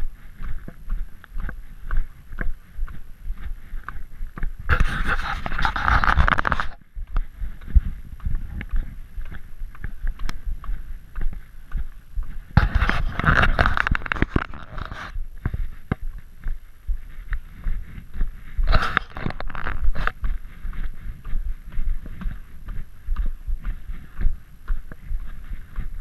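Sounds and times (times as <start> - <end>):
footsteps on gritty pavement: 0.0 - 26.0
microphone handling noise: 0.0 - 26.0
wind rumble on microphone: 0.0 - 26.0.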